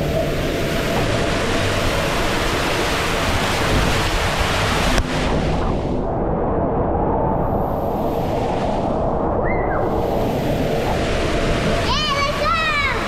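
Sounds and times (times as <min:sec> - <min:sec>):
rushing splashing water: 0:00.0 - 0:06.1, 0:07.5 - 0:13.0.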